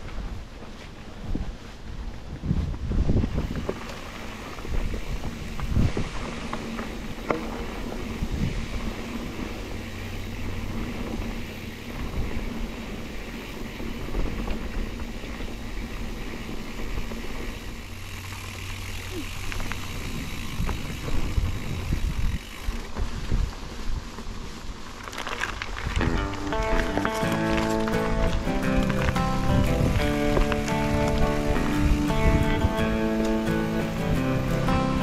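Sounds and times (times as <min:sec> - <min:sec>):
wind on microphone: 0:00.0 - 0:17.6, 0:19.1 - 0:24.9, 0:25.5 - 0:35.0
bike thumping and rattling: 0:00.0 - 0:35.0
bike tyres rolling on dirt: 0:00.0 - 0:35.0.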